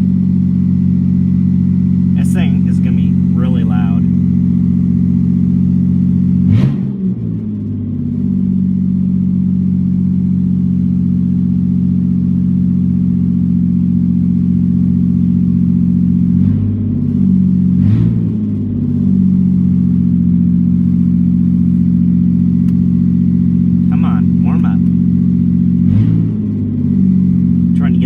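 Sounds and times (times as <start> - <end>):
loud car engine idling: 0.0 - 28.0.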